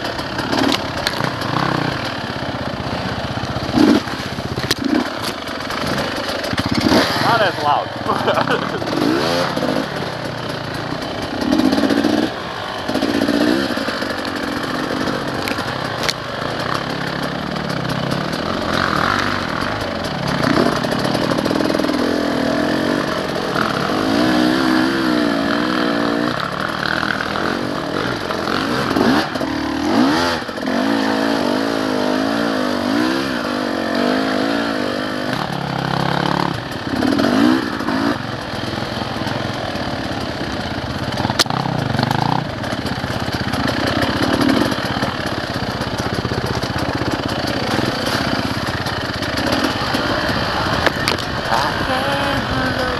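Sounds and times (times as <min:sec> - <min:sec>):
dirt bike engines revving: 0:00.0 - 0:52.9.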